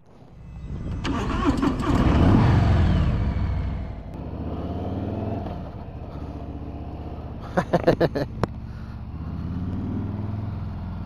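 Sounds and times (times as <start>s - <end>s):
motorcycle engine revving: 0.2s - 11.0s.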